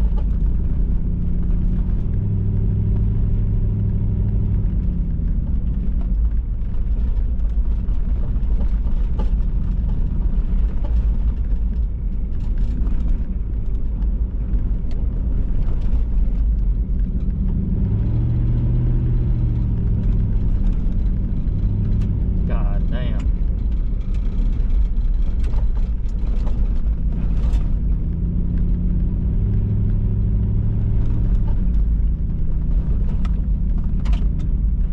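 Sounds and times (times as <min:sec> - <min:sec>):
small rattles and clicks: 0:00.0 - 0:34.9
vehicle engine rumbling: 0:00.0 - 0:34.9.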